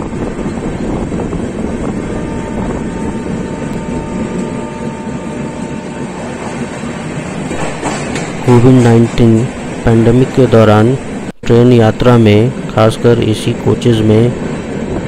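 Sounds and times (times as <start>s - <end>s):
faint steady whine: 0.0s - 15.0s
train wheels rumbling on rails: 0.0s - 15.0s.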